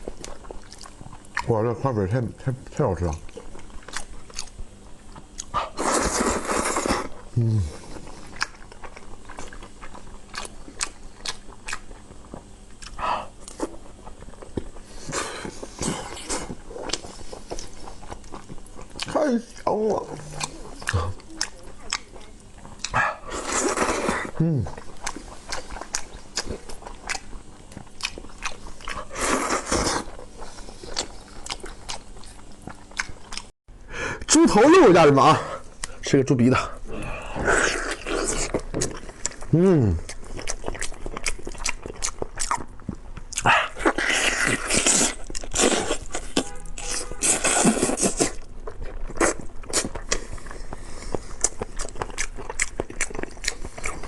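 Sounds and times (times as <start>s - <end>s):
wet chewing: 3.0s - 33.5s, 37.1s - 54.0s.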